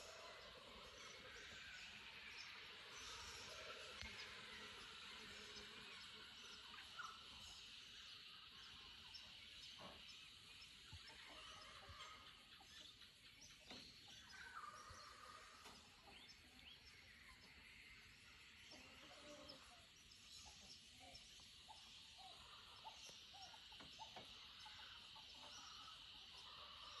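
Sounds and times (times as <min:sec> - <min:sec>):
birds chirping: 0:00.0 - 0:27.0
high background hiss: 0:00.0 - 0:27.0.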